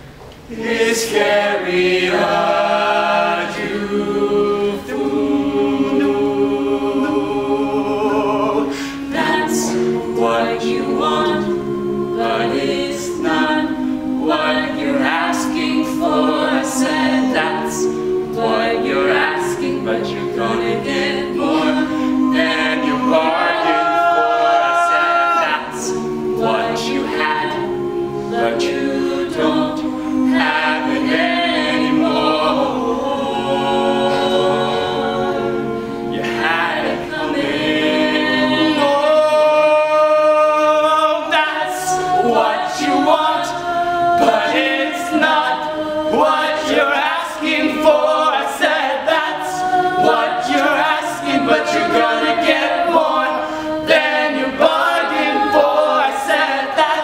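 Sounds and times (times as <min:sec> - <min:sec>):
a cappella group singing chords: 0:00.0 - 0:57.0.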